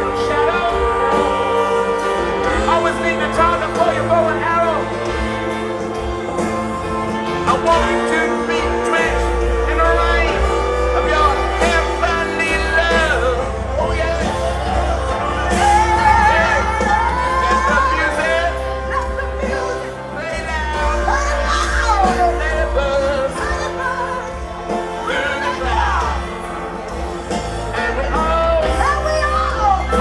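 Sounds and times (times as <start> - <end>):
live band music: 0.0 - 30.0
singer belting long notes: 0.0 - 30.0
steady bass: 0.0 - 30.0.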